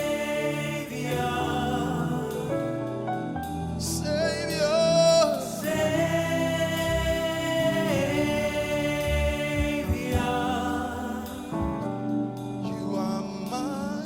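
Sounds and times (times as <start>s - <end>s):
gospel worship music: 0.0s - 14.0s.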